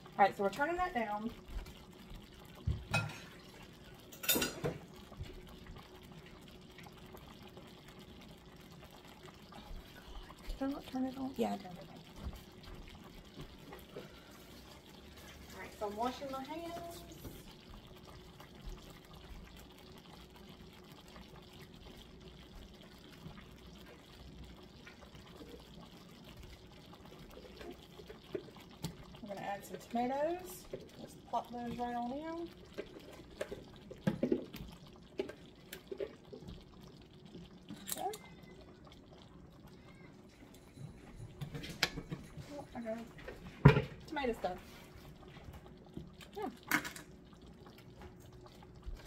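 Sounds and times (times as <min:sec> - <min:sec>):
sauce bubbling at a simmer: 0:00.0 - 0:49.0
tap water running: 0:00.0 - 0:49.0.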